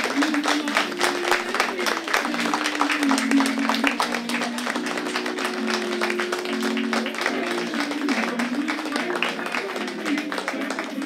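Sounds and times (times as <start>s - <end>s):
audience clapping: 0.0s - 11.0s
music of held low notes: 0.1s - 10.4s.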